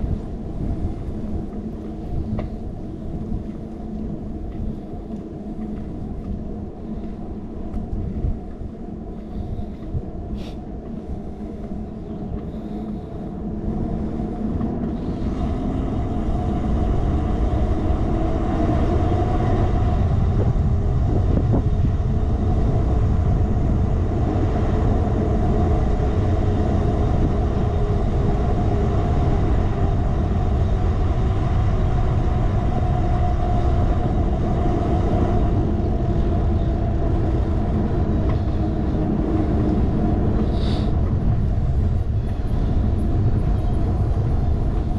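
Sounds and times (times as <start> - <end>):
bicycle tyres rumbling on road: 0.0 - 44.9
wind rushing over microphone: 0.0 - 44.9.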